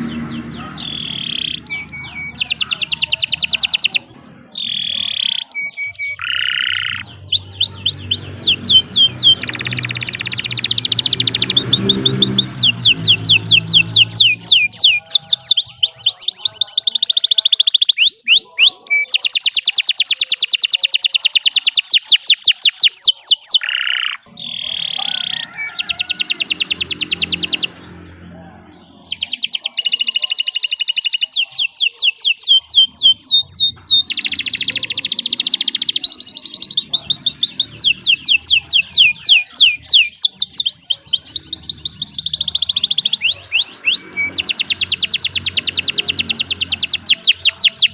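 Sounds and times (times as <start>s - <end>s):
canary singing trills: 0.0s - 47.9s.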